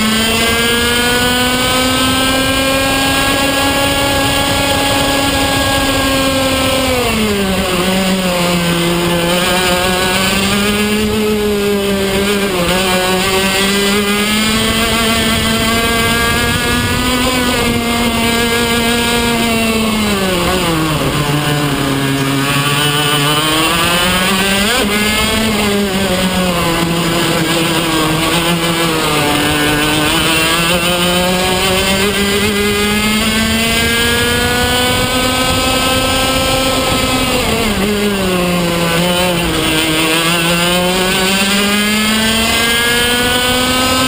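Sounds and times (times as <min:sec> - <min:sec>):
racing kart engine: 0:00.0 - 0:44.0.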